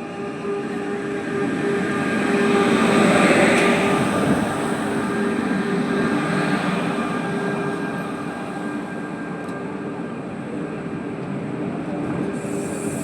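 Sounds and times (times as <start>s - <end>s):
faint whining tones: 0.0s - 13.0s
passenger train rumbling by: 0.0s - 13.0s.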